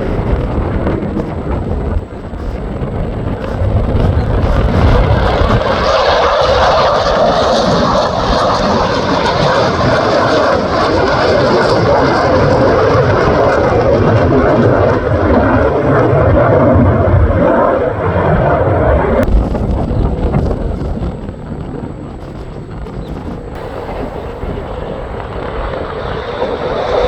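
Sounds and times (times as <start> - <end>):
jet engine roar: 0.0 - 27.0
wind buffeting microphone: 0.0 - 27.0.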